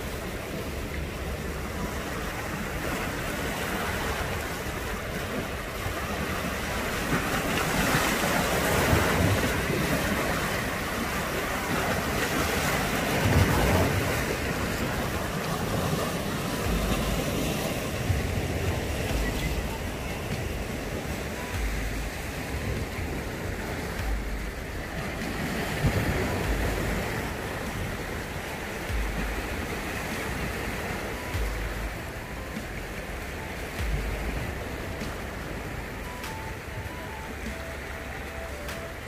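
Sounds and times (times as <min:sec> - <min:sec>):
waves breaking on rocky shore: 0:00.0 - 0:39.0
wind rumble on microphone: 0:00.0 - 0:39.0.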